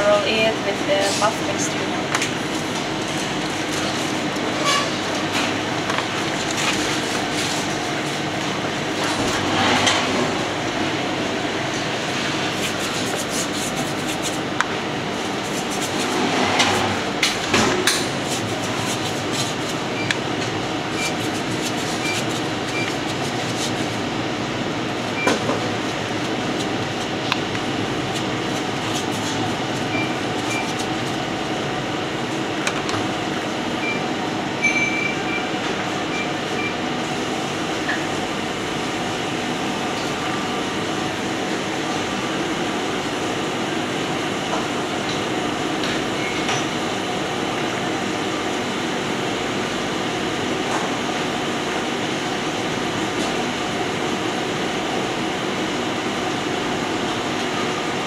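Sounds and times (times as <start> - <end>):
rumbling kitchen background noise: 0.0 - 58.0.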